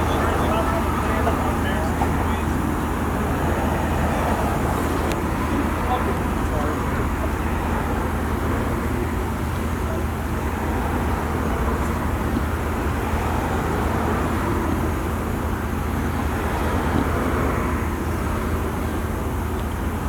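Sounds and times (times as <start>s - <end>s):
vehicle low rumble with hiss: 0.0s - 20.0s.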